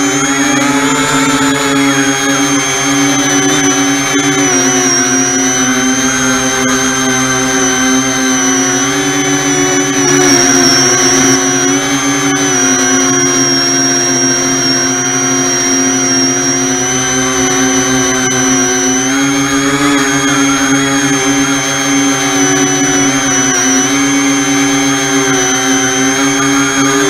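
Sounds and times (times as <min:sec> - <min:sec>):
electric motors and propellers whining: 0:00.0 - 0:27.0.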